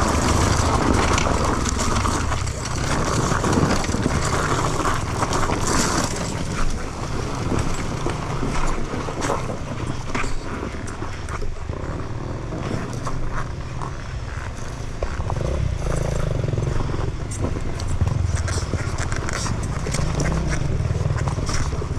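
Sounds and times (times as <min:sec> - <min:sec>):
motorcycle engine at low revs: 0:00.0 - 0:21.9.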